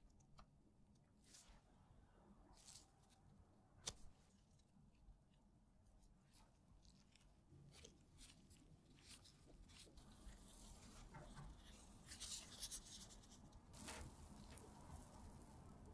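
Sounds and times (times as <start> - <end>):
plastic gloves rustling: 1.2 - 1.7, 2.5 - 4.8, 5.9 - 15.9.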